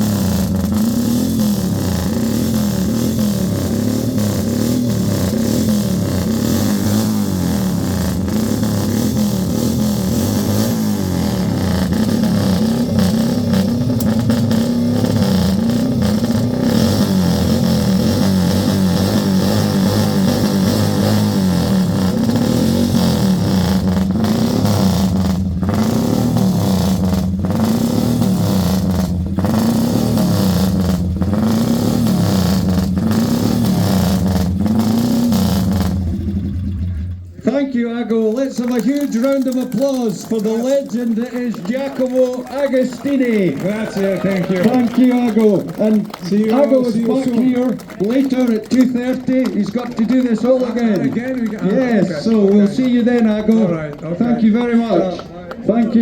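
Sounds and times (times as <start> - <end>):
motorcycle engine revving: 0.0 - 37.4, 38.1 - 56.0.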